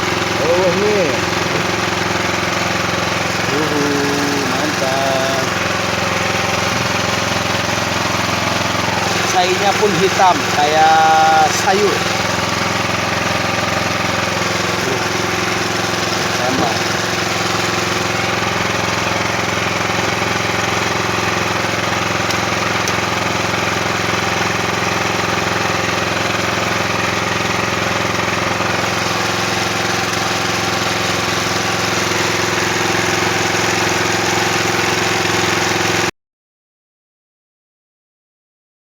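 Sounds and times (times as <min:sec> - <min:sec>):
small engine running steadily: 0:00.0 - 0:36.1.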